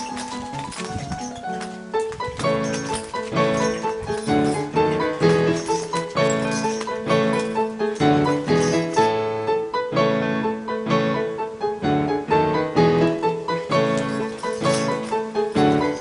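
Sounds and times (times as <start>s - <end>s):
bouncy piano tune: 0.0s - 16.0s.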